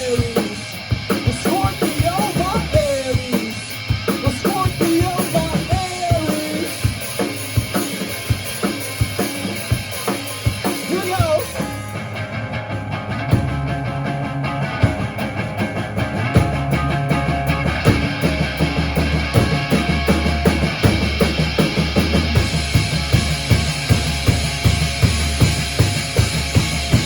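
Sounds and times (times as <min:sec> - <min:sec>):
drumming: 0:00.0 - 0:27.0
rock band playing: 0:00.0 - 0:27.0.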